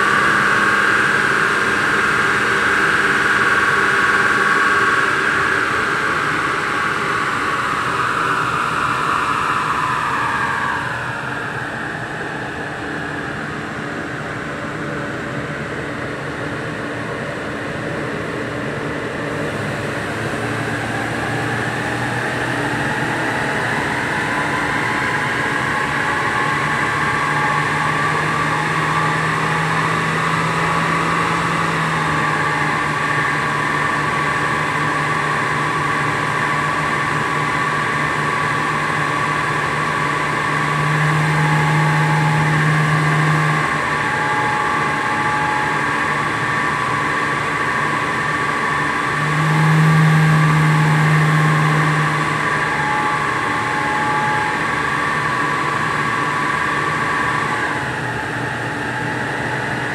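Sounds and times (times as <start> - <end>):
car engine running under load: 0.0 - 59.9
constant whine: 0.0 - 59.9.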